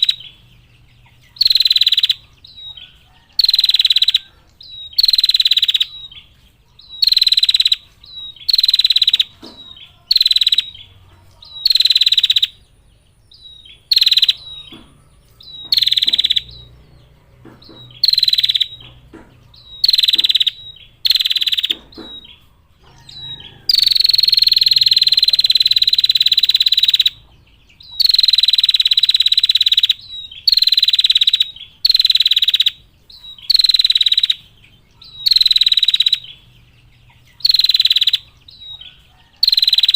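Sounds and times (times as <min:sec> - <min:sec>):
bird trilling call: 0:00.0 - 0:39.9.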